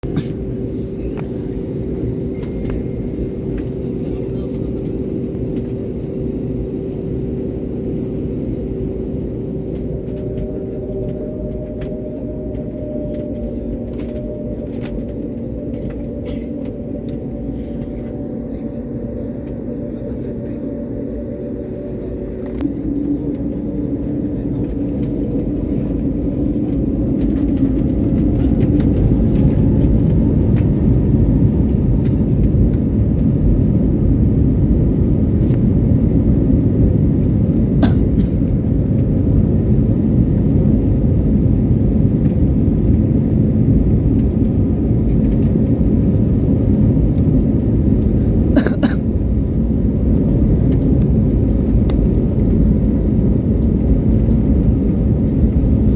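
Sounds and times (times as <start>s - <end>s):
jet engines roaring on takeoff: 0.0s - 55.9s.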